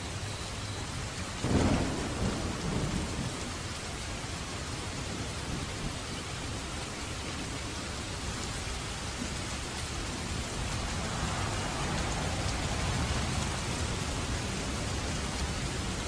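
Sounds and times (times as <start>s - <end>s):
heavy rain falling: 0.0s - 16.0s
distant thunder rumble: 1.4s - 16.0s.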